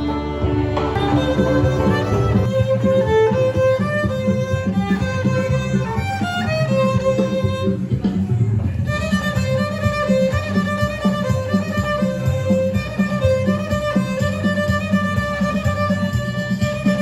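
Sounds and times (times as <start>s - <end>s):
violin melody: 0.0s - 8.0s, 8.7s - 17.0s
low rhythmic accompaniment: 0.0s - 17.0s.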